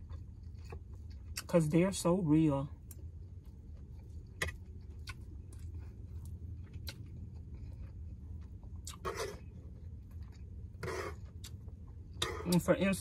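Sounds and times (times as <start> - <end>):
chewing crunchy food: 0.0 - 1.7, 2.8 - 12.7
steady low hum: 0.0 - 13.0.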